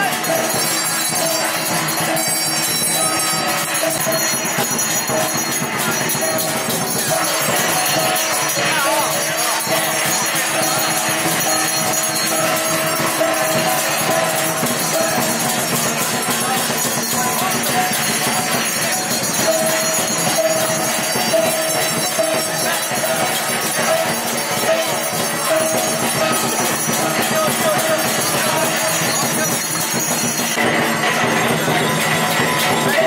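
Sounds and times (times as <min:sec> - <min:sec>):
music: 0:00.0 - 0:33.0
small bells jingling: 0:00.0 - 0:33.0.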